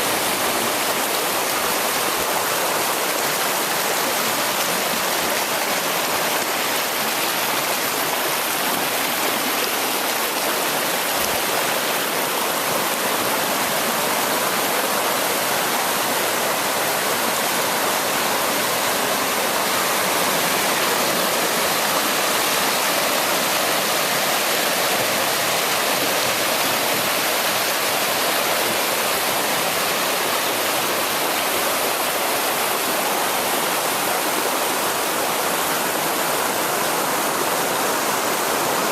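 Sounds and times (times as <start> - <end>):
water rushing over waterfall: 0.0 - 38.9.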